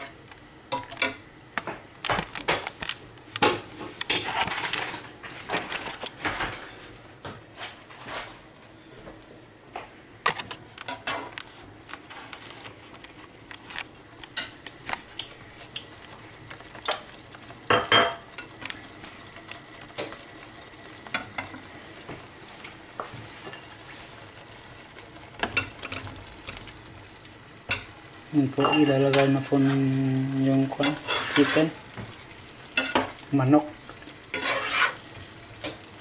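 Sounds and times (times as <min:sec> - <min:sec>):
food sizzling in a frying pan: 0:00.0 - 0:36.0.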